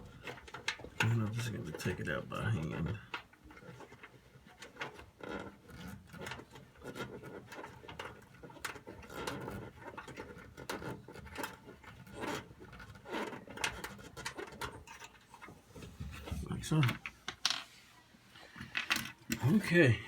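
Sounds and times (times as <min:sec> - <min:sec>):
plastic scraping on sheet metal: 0:00.0 - 0:19.8.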